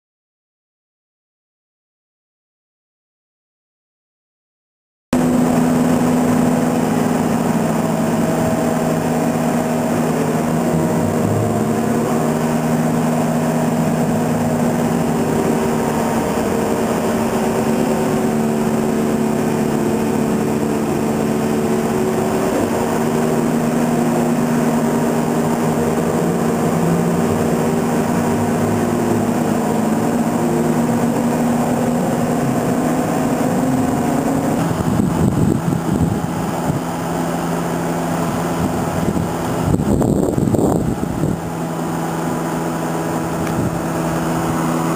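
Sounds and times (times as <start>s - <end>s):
motor-generator humming drone: 5.2s - 44.9s
street noise: 5.2s - 44.9s.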